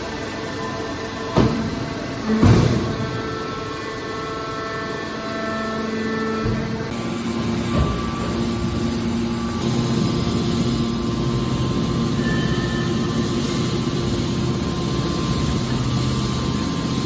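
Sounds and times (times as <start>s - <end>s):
hydraulic baler machine hum: 0.0s - 17.0s.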